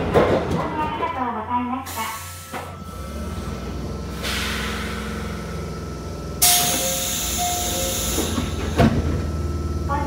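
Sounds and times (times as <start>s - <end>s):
electric train rumbling: 0.0s - 10.0s.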